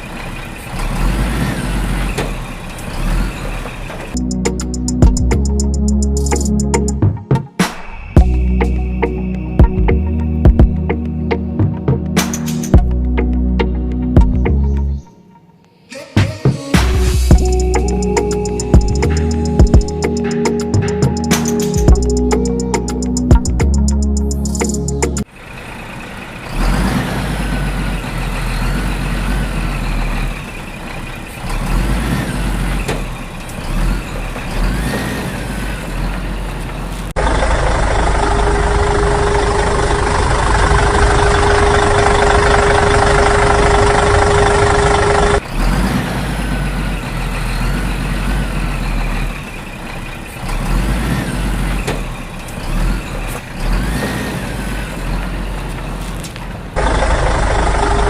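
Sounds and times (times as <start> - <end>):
vehicle engine rumbling: 0.0 - 15.1, 16.8 - 58.0.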